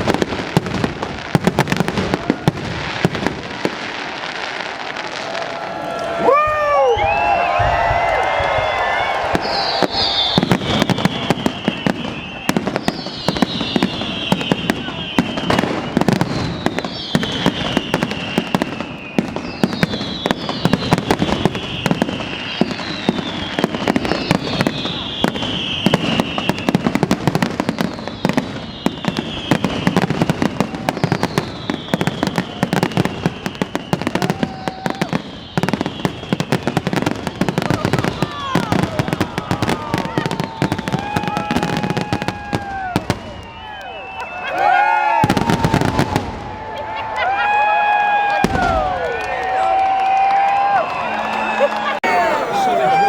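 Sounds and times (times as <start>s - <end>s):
fireworks crackling bangs: 0.0s - 6.2s, 9.1s - 43.9s, 45.1s - 47.2s, 48.2s - 50.0s
descending firework whistle: 4.1s - 53.0s.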